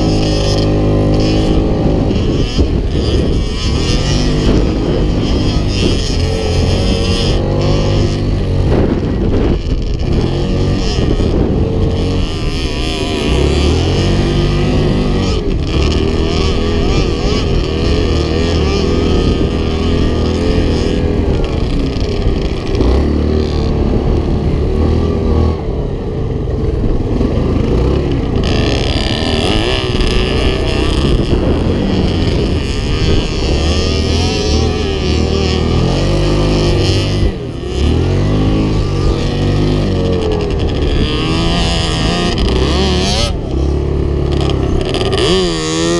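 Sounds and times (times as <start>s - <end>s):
atv engine revving under load: 0.0s - 45.9s
wind noise on camera: 0.0s - 45.9s.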